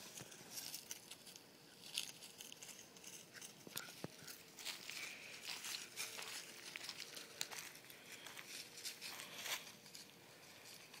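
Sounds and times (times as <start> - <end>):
footsteps on dry leaves: 0.0 - 11.0.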